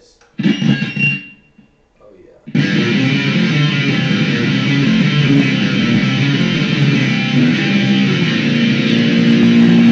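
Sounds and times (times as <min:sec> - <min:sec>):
guitar picked notes and chords: 0:00.4 - 0:01.3, 0:02.5 - 0:09.9.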